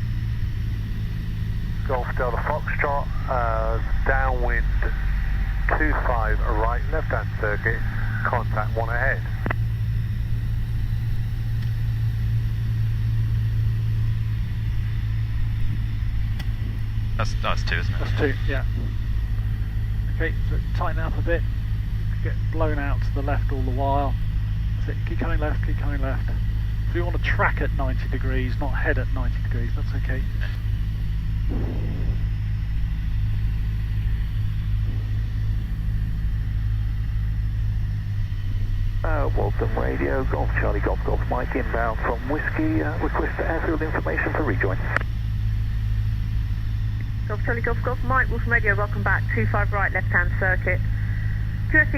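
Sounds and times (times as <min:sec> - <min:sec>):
aircraft engine and propeller drone: 0:00.0 - 0:51.9.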